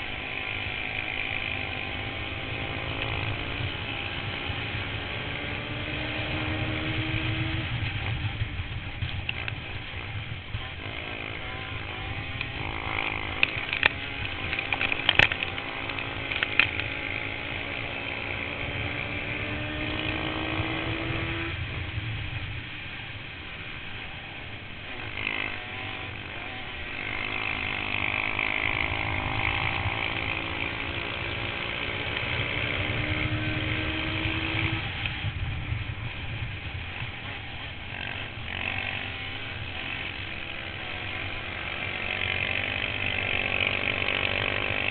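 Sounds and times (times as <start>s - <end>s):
two-stroke engine revving: 0.0s - 8.2s, 9.3s - 21.7s, 24.8s - 44.9s.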